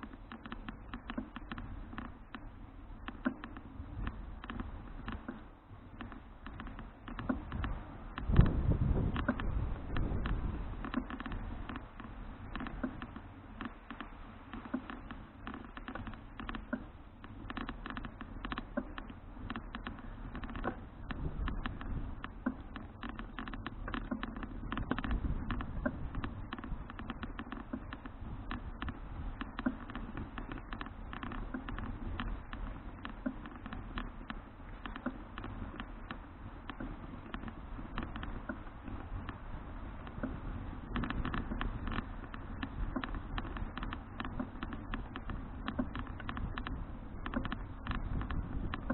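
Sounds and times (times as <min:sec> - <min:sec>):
bicycle clicks and rattles: 0:00.0 - 0:48.9
wind and tyres rumble: 0:00.0 - 0:48.9.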